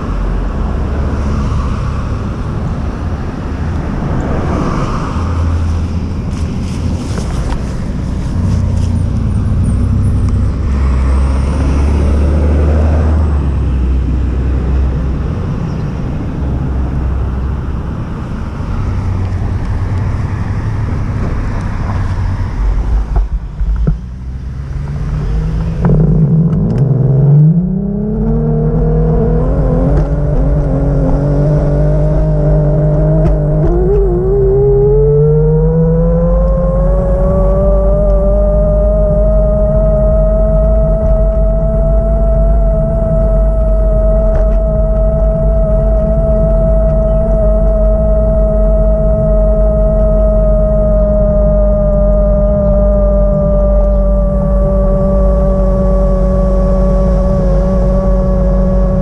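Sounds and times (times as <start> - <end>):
road and wind noise: 0.0 - 59.0
vehicle engine rumbling: 0.0 - 59.0.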